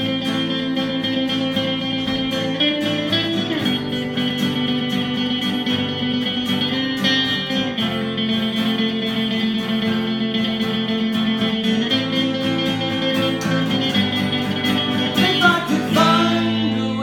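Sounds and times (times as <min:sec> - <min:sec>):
rock guitars playing held chords: 0:00.0 - 0:17.0.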